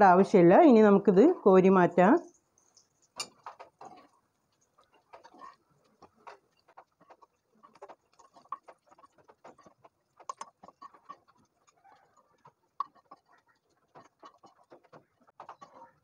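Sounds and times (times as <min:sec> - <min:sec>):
spoon scraping and tapping a pan: 0:02.6 - 0:16.0.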